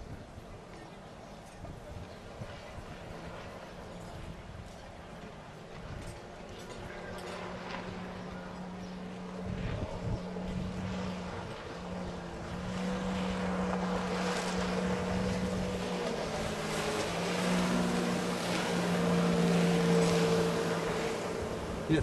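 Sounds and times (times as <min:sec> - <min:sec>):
small boat engine running: 0:00.0 - 0:22.0
water noise: 0:00.0 - 0:22.0
wind: 0:00.0 - 0:22.0.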